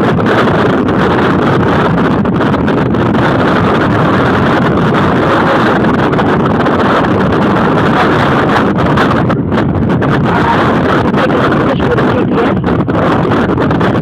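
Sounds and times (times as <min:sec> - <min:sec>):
loud rushing wind: 0:00.0 - 0:14.0.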